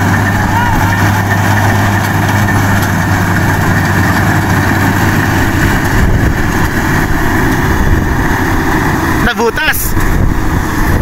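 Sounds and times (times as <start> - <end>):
combine harvester engine hum: 0.0 - 11.0
whir of threshing machinery: 0.0 - 11.0.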